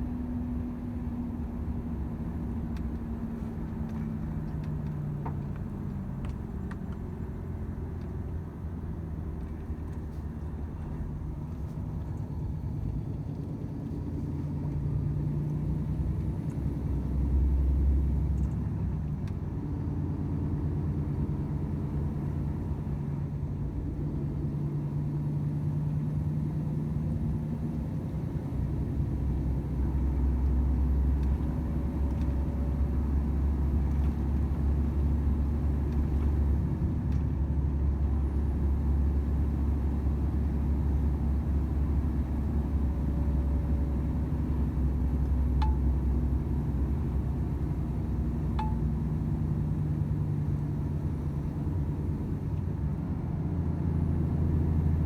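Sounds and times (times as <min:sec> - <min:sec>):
road and tyre rumble: 0:00.0 - 0:55.0
truck diesel engine droning: 0:00.0 - 0:55.0.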